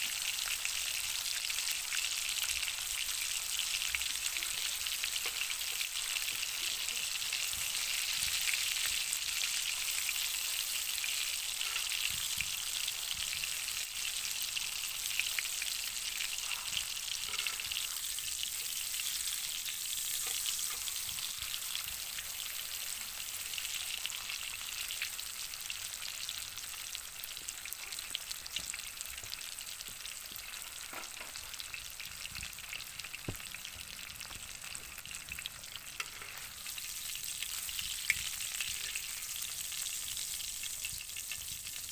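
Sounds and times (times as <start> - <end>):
steak sizzling in a pan: 0.0 - 41.9.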